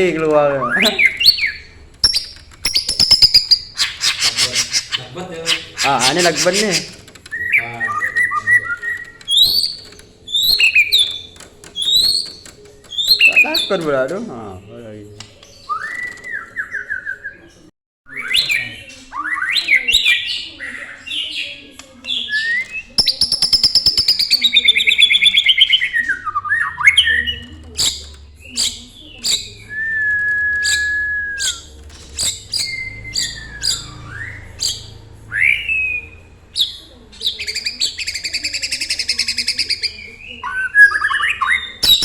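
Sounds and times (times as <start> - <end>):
canary singing: 0.0 - 42.0.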